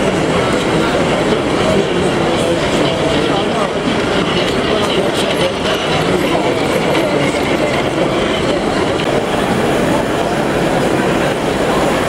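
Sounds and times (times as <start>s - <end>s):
model train wheels clicking: 0.0s - 12.0s
murmur of crowd: 0.0s - 12.0s.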